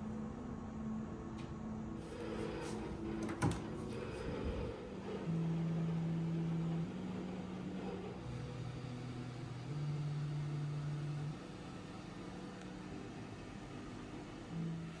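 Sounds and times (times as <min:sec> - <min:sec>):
soft music with low notes: 0:00.0 - 0:15.0.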